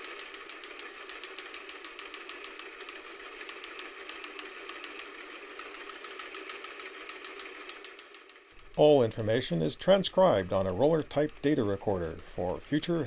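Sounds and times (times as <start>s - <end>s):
rapid mechanical clattering: 0.0s - 13.0s.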